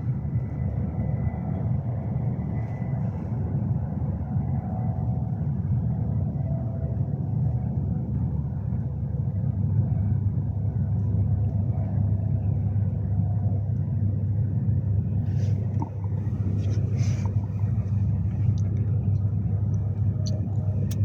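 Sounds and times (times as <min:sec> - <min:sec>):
electric train rumble: 0:00.0 - 0:21.0
faint steady hum: 0:00.0 - 0:21.0.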